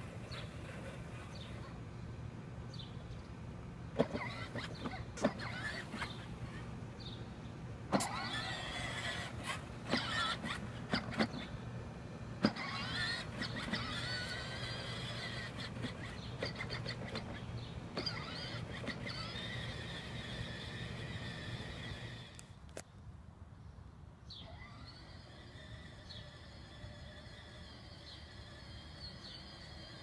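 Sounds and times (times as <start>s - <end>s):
electric motors whining: 0.0s - 1.8s, 3.9s - 7.2s, 7.8s - 22.5s, 24.3s - 30.0s.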